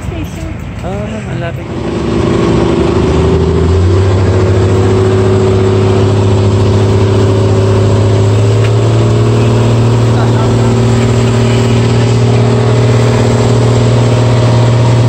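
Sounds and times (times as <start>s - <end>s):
boat engine running loud: 0.8s - 15.0s.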